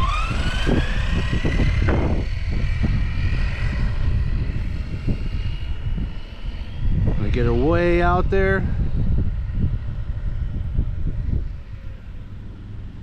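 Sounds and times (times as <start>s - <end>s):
electric motor whining: 0.0s - 13.0s
wind noise on microphone: 0.0s - 13.0s.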